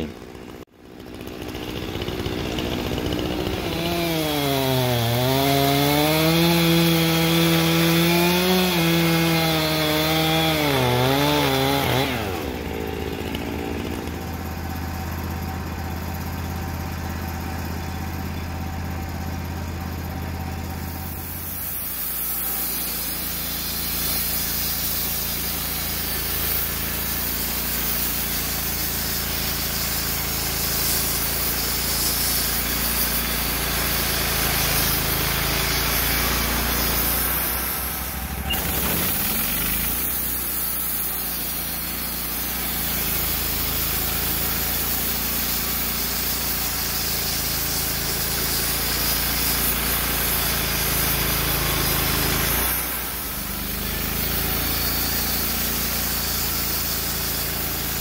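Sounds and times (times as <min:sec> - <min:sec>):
band sawmill cutting wood: 0:00.0 - 0:58.0
sawmill running hum: 0:00.0 - 0:58.0.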